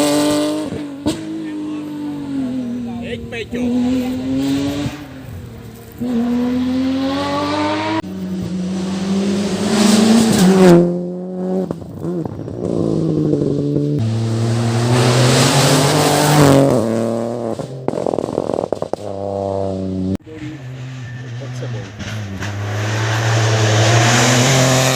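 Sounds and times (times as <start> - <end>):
rally car engine at full throttle: 0.0 - 24.9.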